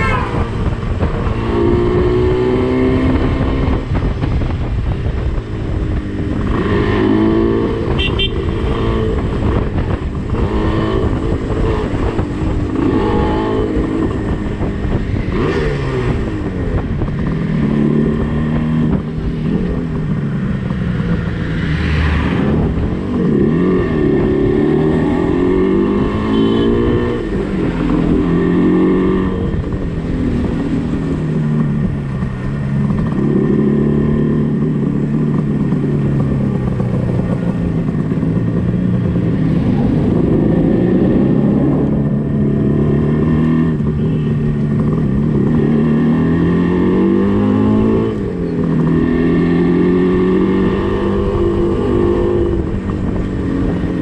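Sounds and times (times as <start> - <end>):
two-stroke motorcycle engine revving: 0.0 - 54.0
wind rushing over microphone: 0.0 - 54.0.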